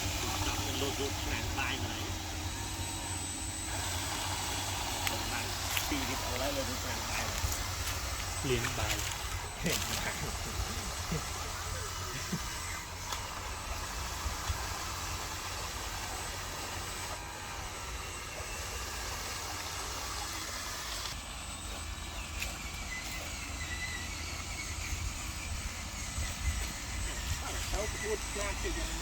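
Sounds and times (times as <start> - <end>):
faint wavering whine: 0.0 - 29.0
small electric motor whirring: 0.0 - 29.0.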